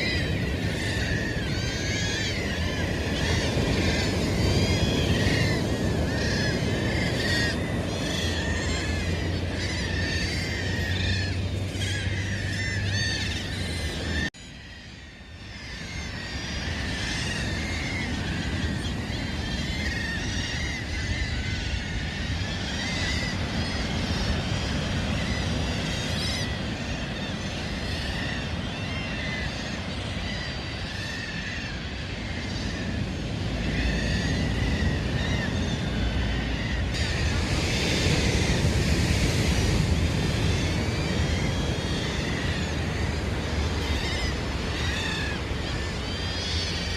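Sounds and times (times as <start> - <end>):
surf rumble: 0.0 - 14.3, 15.8 - 46.9
flock of birds calling: 0.0 - 46.9.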